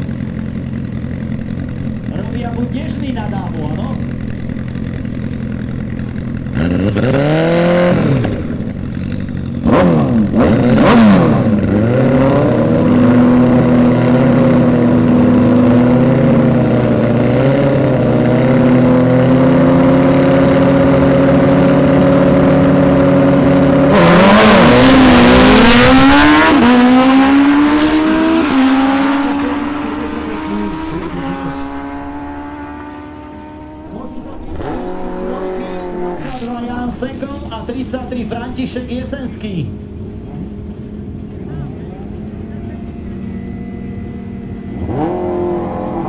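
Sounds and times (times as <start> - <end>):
motorcycle engines revving: 0.0 - 46.0
motorcycles accelerating at full throttle: 0.0 - 46.0.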